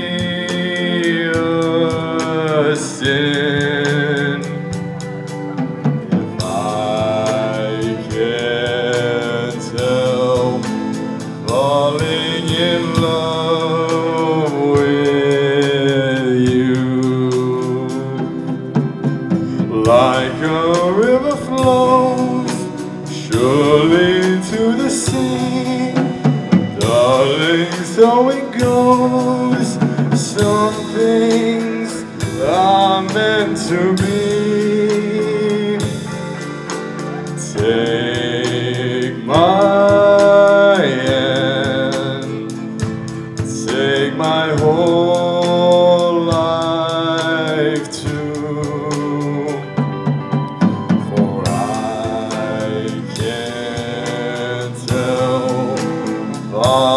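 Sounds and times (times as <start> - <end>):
live band playing: 0.0 - 56.9
male lead vocal: 0.0 - 56.9.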